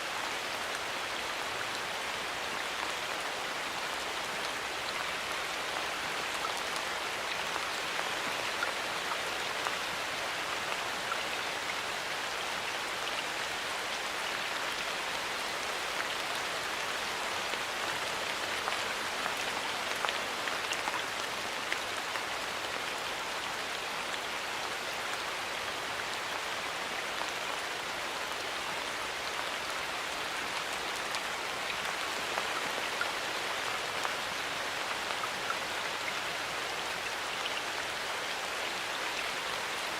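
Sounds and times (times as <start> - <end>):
rain falling in a forest: 0.0 - 39.9
raindrops pattering on leaves: 0.1 - 39.9.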